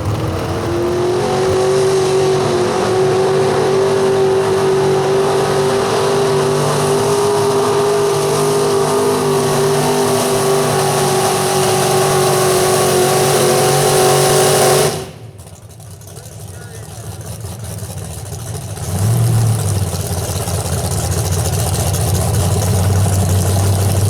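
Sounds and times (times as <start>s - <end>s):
truck engine running flat out: 0.0s - 24.0s.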